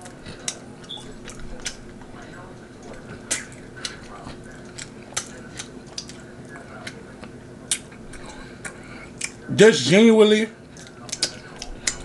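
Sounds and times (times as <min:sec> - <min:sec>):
chewing and sucking fingers: 0:00.0 - 0:09.4, 0:10.6 - 0:12.0.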